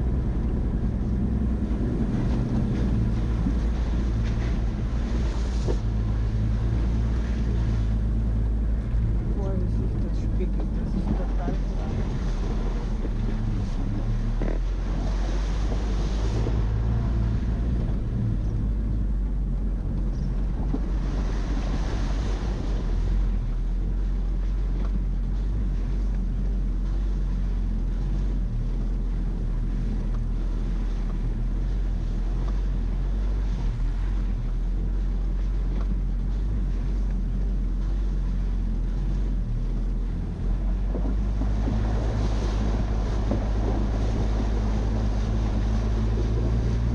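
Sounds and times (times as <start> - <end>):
low engine drone: 0.0 - 46.9
wind noise: 0.0 - 46.9.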